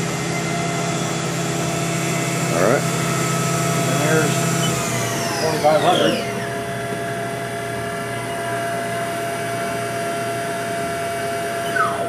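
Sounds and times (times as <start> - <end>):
machine spindle whine: 0.0 - 12.0.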